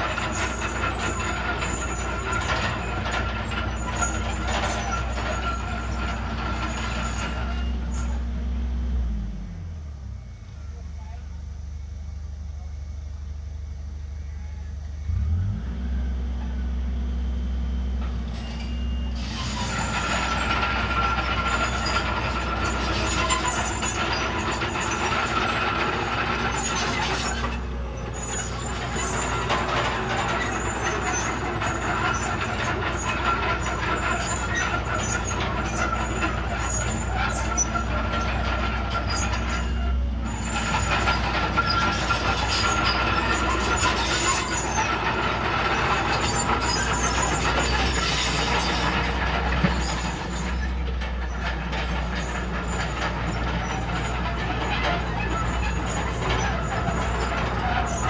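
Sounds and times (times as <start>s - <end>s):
high squeal and metallic clatter: 0.0s - 8.5s, 17.9s - 58.0s
diesel engine running: 0.0s - 58.0s.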